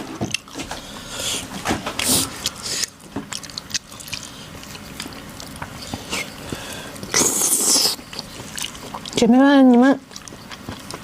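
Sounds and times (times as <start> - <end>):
wet chewing: 0.2 - 11.0.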